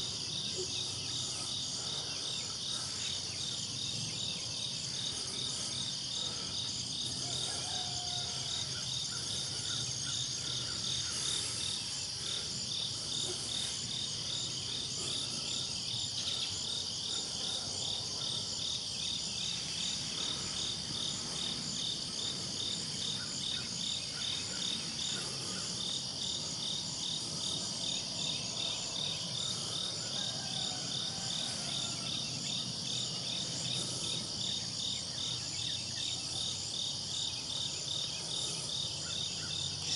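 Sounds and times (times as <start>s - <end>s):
pulsing cricket chirp: 0.0s - 39.9s.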